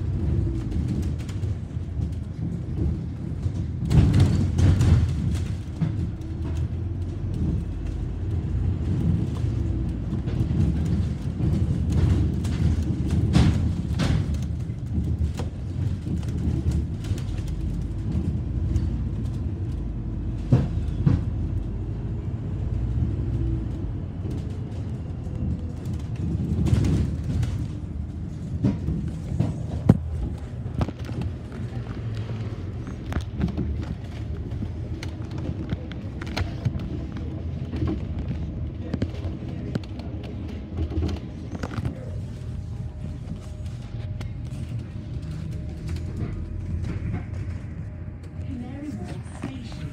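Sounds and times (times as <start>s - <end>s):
rattles and knocks: 0.0s - 21.8s, 24.2s - 49.9s
bus engine and road rumble: 0.0s - 49.9s.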